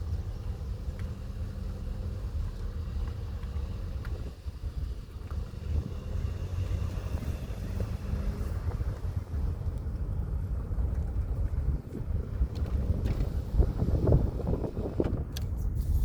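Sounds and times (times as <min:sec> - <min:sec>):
car engine hum: 0:00.0 - 0:16.0
road rumble inside car: 0:00.0 - 0:16.0.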